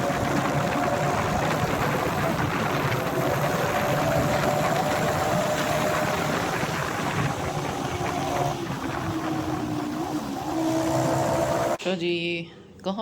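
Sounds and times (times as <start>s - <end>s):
road noise rushing: 0.0s - 11.8s.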